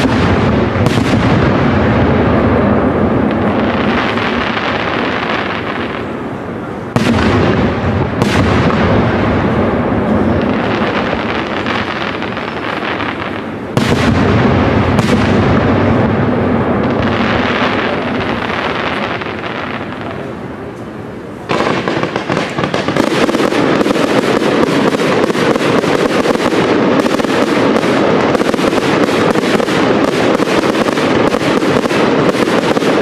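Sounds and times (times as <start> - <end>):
fireworks display noise: 0.0 - 33.0.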